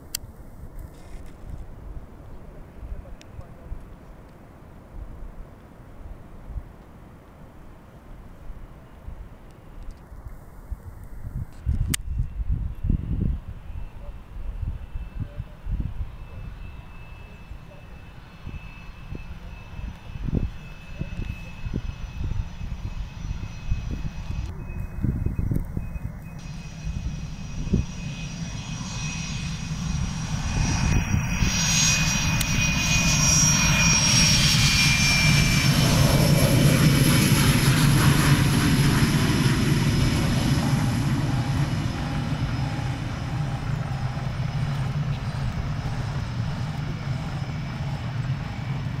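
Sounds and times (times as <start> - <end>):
jet engines whining and rumbling: 0.0 - 49.0.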